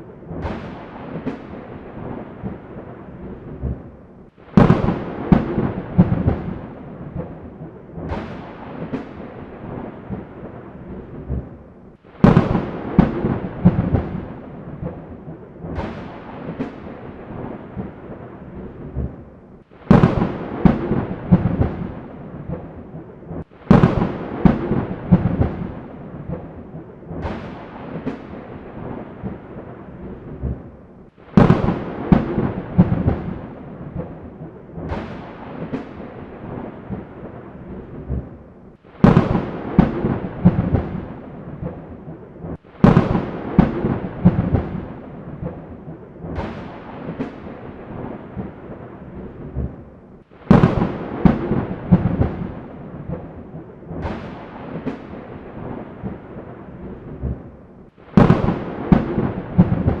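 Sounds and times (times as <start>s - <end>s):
thunder cracking and rolling: 0.0s - 60.0s.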